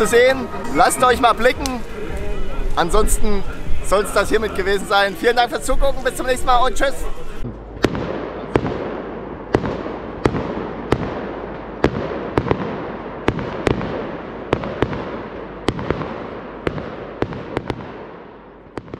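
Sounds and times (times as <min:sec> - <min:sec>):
crackling rumble of fireworks: 0:00.0 - 0:18.9
firework bangs: 0:00.0 - 0:18.9.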